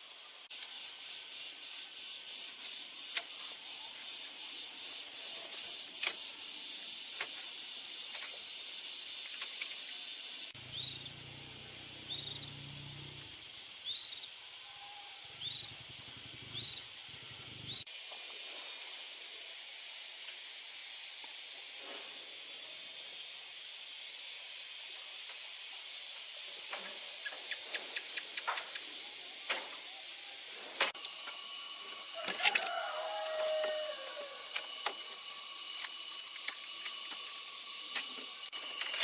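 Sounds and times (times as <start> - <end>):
steady high-pitched hiss: 0.0 - 39.0.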